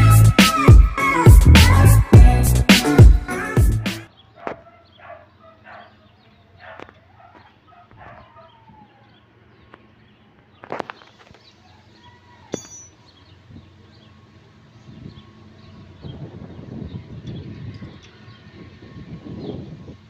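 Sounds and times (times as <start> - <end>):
birds calling: 2.8 - 20.0.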